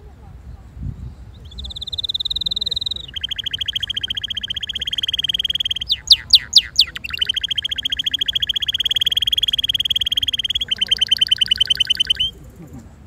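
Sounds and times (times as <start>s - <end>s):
canary trilling: 1.4s - 12.4s
loud sweeping whistled notes: 1.8s - 12.3s.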